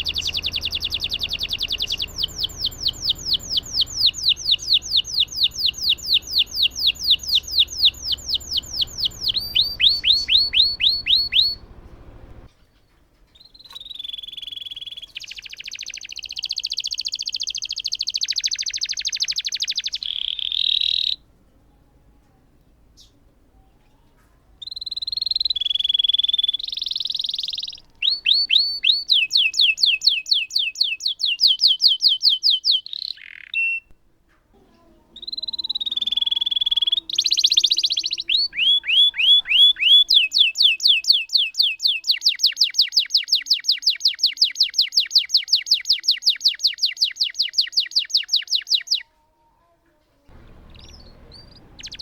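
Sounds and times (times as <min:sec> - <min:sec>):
canary singing whistles and trills: 0:00.0 - 0:12.5, 0:13.3 - 0:21.3, 0:24.6 - 0:34.0, 0:35.1 - 0:49.1, 0:50.3 - 0:52.0.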